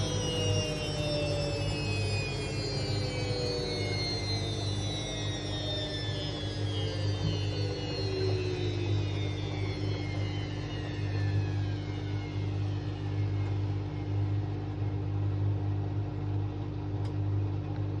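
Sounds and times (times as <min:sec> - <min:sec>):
low hum: 0:00.0 - 0:18.0
washing machine motor whine: 0:00.0 - 0:18.0.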